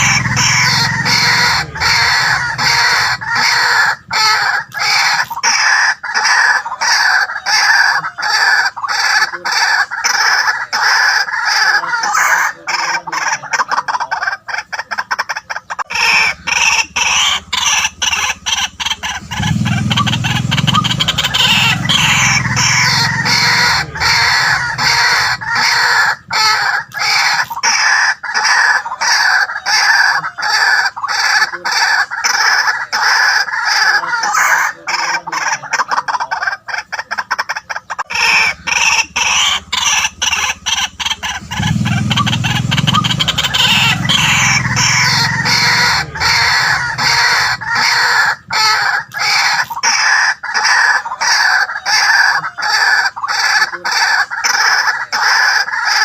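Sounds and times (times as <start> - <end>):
waterhen croaking call: 0.0 - 56.0.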